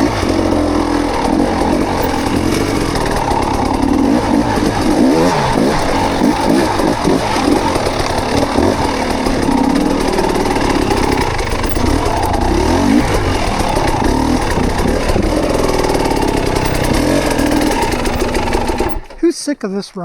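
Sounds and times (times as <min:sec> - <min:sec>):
bike rattling: 0:00.0 - 0:20.0
tyres rolling over rocky trail: 0:00.0 - 0:20.0.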